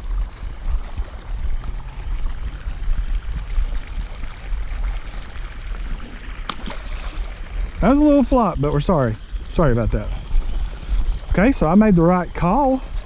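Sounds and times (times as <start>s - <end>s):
low rumble: 0.0s - 12.1s
water pouring into a pond: 0.0s - 13.0s.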